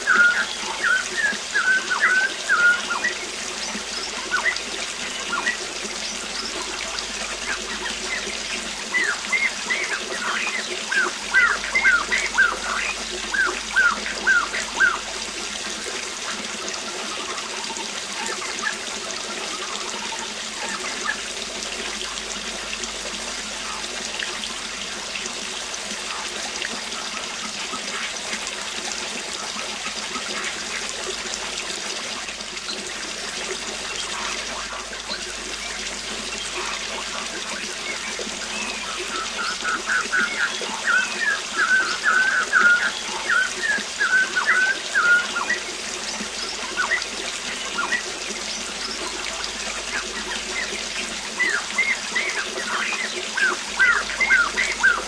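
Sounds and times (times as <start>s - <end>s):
waterfall running: 0.0s - 55.0s.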